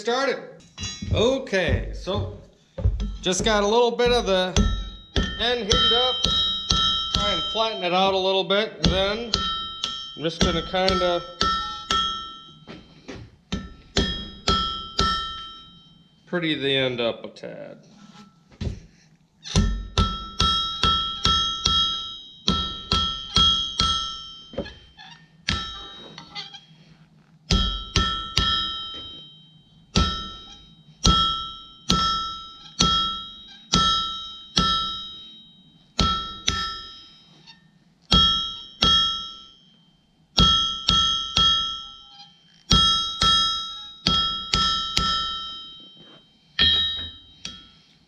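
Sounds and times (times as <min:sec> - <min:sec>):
hammer striking steel on anvil: 0:00.6 - 0:08.2, 0:08.8 - 0:16.0, 0:19.5 - 0:26.6, 0:27.5 - 0:37.5, 0:38.1 - 0:39.6, 0:40.4 - 0:48.0.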